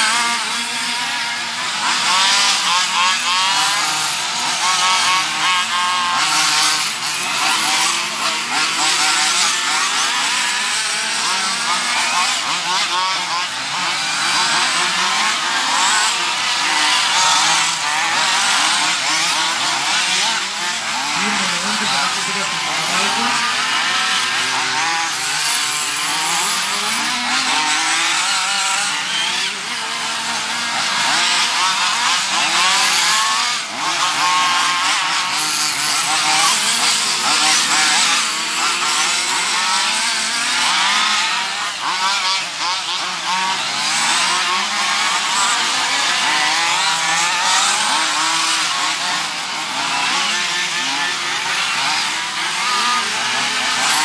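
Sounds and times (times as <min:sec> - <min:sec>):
nitro rc car engines whining: 0:00.0 - 0:54.0.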